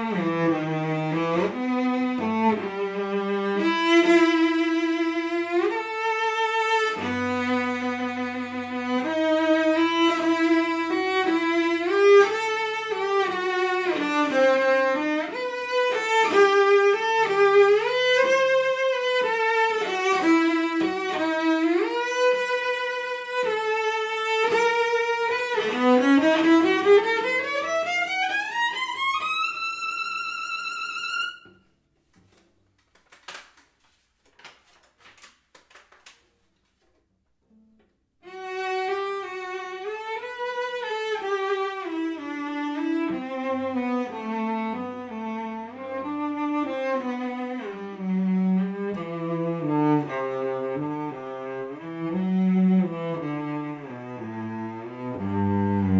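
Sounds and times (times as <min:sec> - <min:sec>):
bowed cello: 0:00.0 - 0:31.6, 0:38.2 - 0:55.9.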